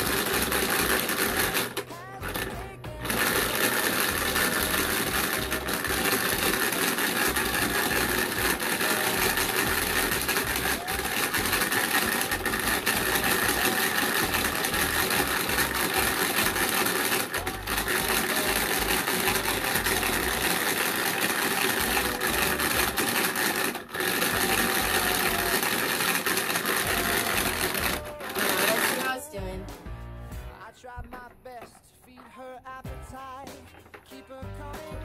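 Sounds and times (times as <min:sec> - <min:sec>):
plastic rattle of paint mixer: 0:00.0 - 0:29.4, 0:33.5 - 0:35.0.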